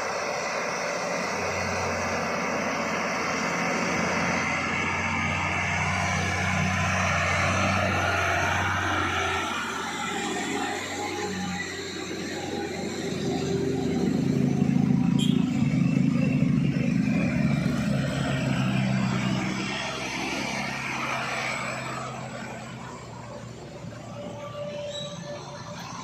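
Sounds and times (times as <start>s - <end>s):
truck diesel engine climbing: 0.0s - 26.0s.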